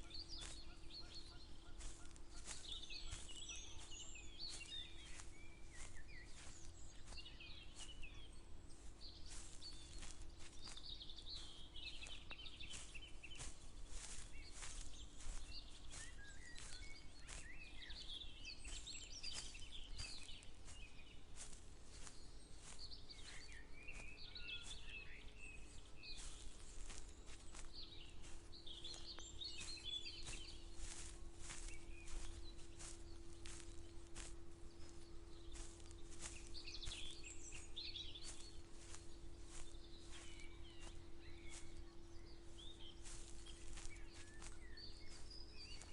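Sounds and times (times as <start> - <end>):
footsteps walking: 0.0 - 45.9
songbirds singing: 0.0 - 45.9.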